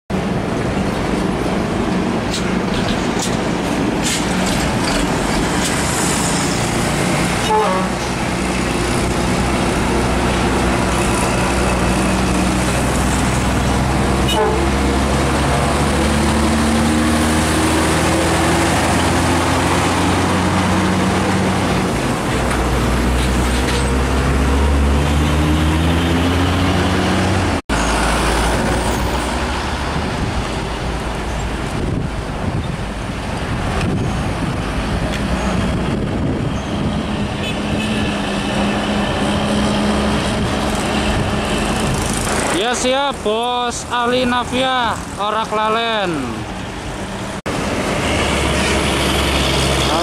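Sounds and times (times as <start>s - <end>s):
tractor-trailer passing: 0.1s - 50.0s
traffic noise: 0.1s - 50.0s
diesel truck engine pulling away: 8.0s - 45.3s, 46.1s - 50.0s.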